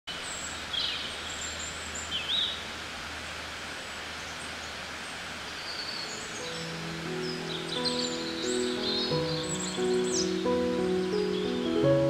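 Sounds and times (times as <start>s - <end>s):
birds chirping: 0.1s - 2.8s, 4.0s - 12.0s
steady hiss: 0.1s - 12.0s.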